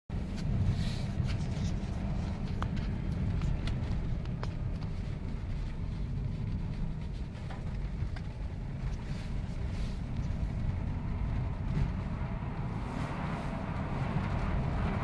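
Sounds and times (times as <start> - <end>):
low engine rumble: 0.1 - 15.0
tyre and road noise: 0.1 - 15.0.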